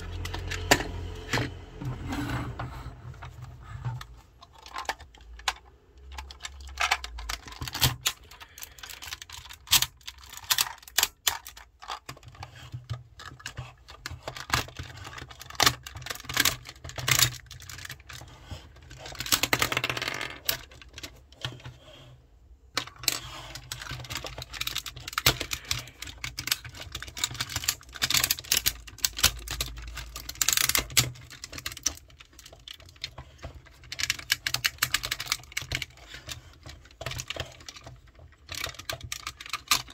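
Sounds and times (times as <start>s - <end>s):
plastic parts rubbing and scraping: 0.0s - 39.9s.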